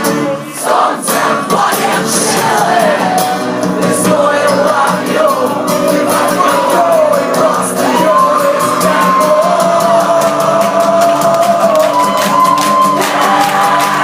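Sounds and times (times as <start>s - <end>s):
guitars: 0.0s - 14.0s
person singing: 0.0s - 14.0s
crowd shouting along: 0.4s - 3.4s, 4.3s - 14.0s
drums: 1.1s - 14.0s.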